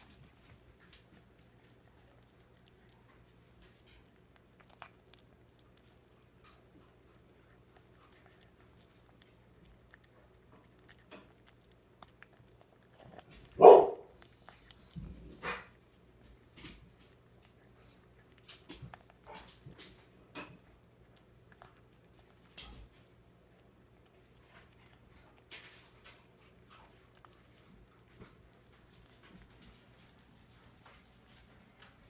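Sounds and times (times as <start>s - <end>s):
cat chewing: 0.0s - 32.0s.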